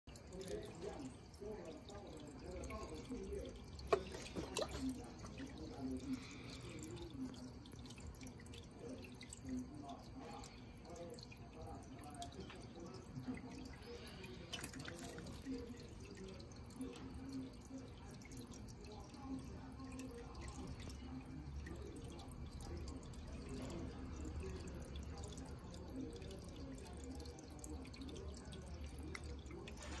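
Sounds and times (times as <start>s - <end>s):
low steady hum: 0.1s - 30.0s
water dripping into aquarium: 0.1s - 30.0s.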